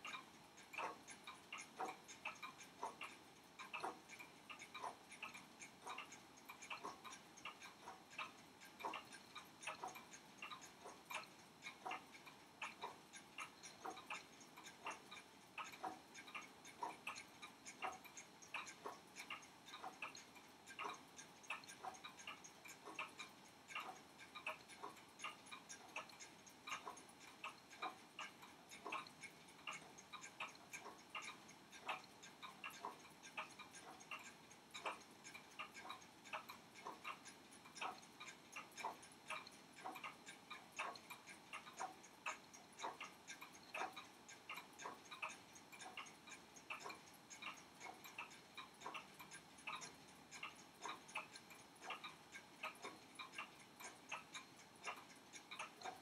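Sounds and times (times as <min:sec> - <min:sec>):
clockwork ticking: 0:00.0 - 0:56.0.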